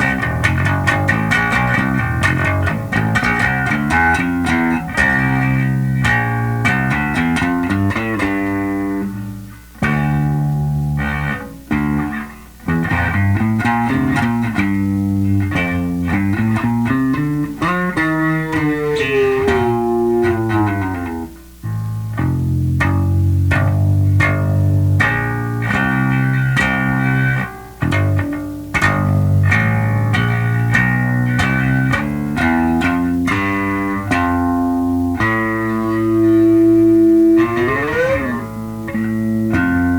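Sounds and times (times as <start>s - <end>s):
picked bass guitar riffs: 0.0s - 39.9s.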